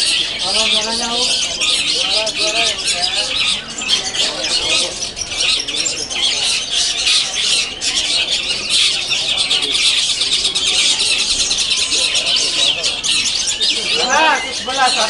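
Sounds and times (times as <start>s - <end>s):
many birds singing: 0.0s - 15.0s.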